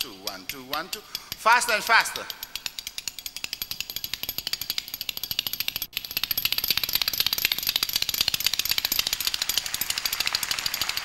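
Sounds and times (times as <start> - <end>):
spoons clicking as percussion: 0.0 - 11.0.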